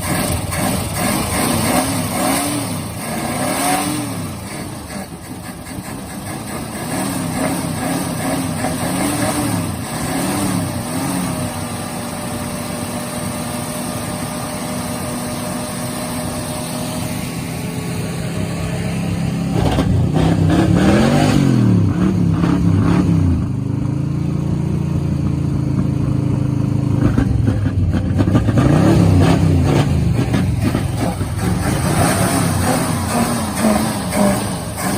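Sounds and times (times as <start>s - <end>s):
car engine revving and idling: 0.0s - 34.9s.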